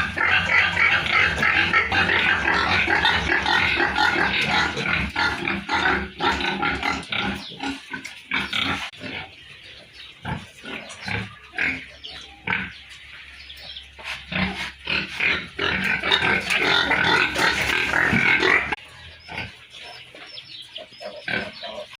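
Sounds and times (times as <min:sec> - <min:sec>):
pigs grunting: 0:00.0 - 0:12.9, 0:14.0 - 0:22.0.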